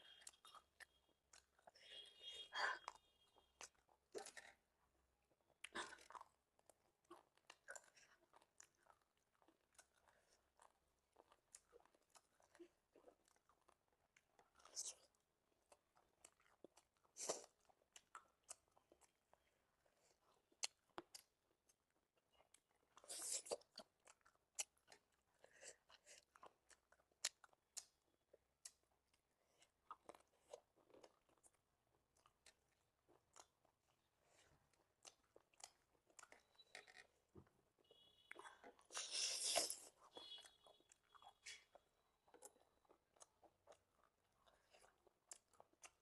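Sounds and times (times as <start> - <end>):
person chewing: 0.0 - 2.1, 3.6 - 46.0.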